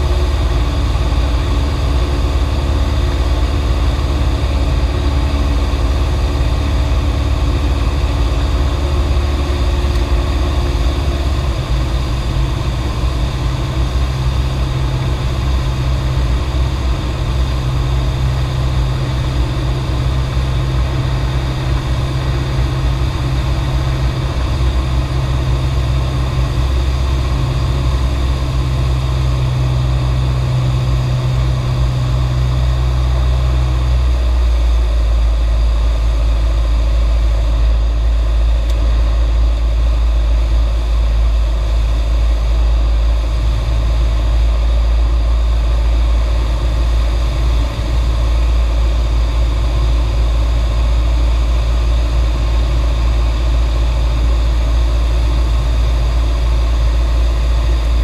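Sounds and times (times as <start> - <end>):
airplane engine drone in cabin: 0.0 - 58.0.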